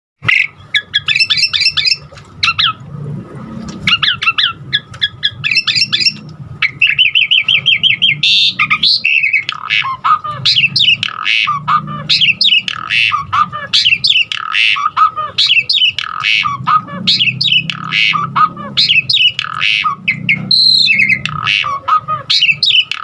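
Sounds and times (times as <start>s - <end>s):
starling singing: 0.2s - 2.8s, 3.8s - 23.0s.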